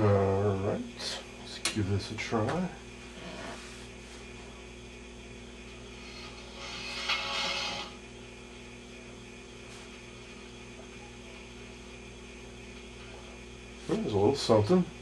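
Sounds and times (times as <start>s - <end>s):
television electrical hum: 0.0s - 15.0s.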